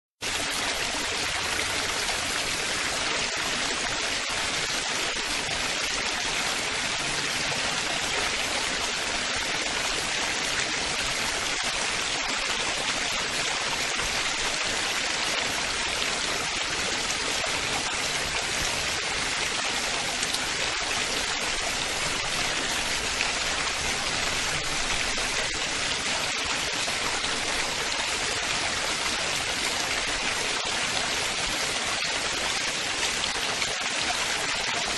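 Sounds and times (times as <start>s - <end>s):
running water babbling: 0.2s - 34.9s.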